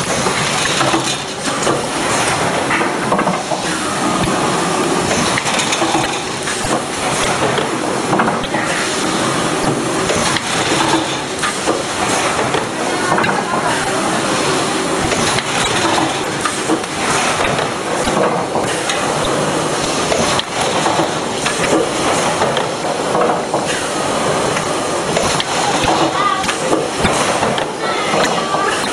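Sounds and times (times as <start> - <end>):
packing machine clattering: 0.0 - 28.9.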